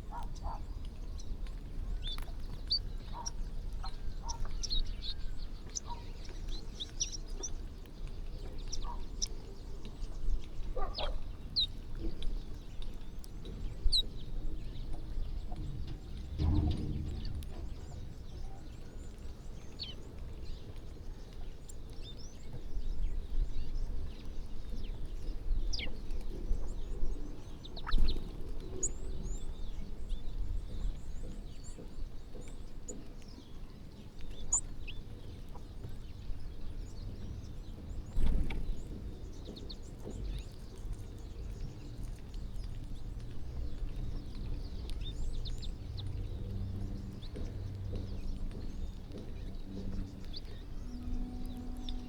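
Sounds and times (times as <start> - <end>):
low outdoor rumble: 0.0 - 32.6, 33.6 - 52.0
birds chirping: 0.0 - 52.0.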